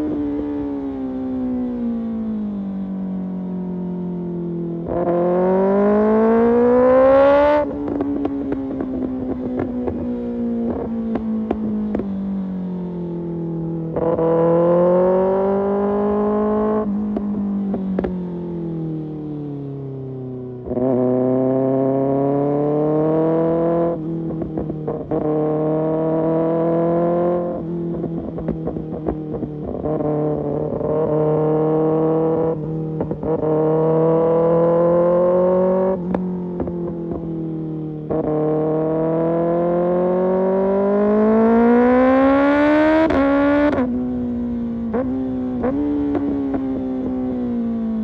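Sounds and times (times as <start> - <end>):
motorcycle engine revving: 4.4 - 12.1, 13.9 - 19.0, 20.6 - 37.3, 38.0 - 48.0.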